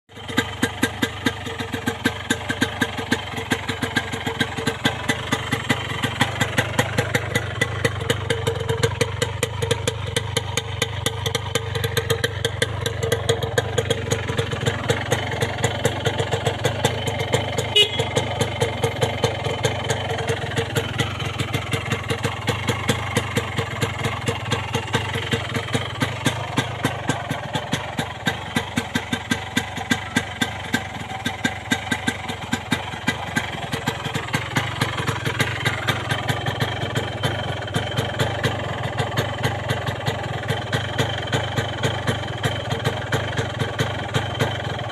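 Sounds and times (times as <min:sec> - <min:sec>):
two-stroke engine idling: 0:00.1 - 0:44.9.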